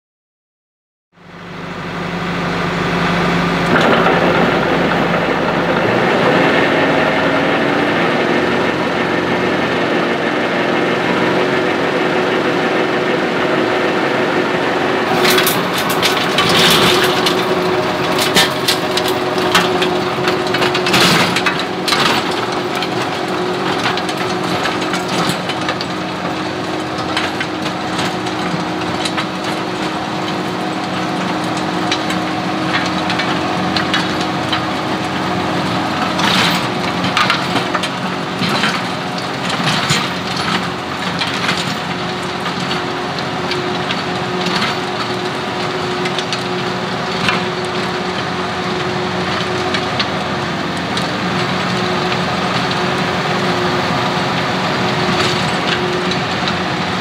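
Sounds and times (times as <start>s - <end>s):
rototiller churning ground: 1.2s - 57.0s
tractor diesel engine under load: 1.2s - 57.0s.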